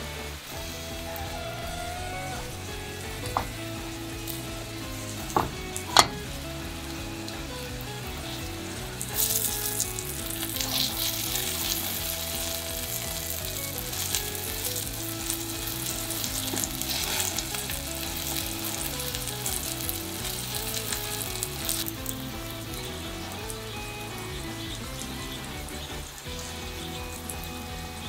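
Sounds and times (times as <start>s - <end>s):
eggplant sizzling in hot oil: 0.0s - 28.0s.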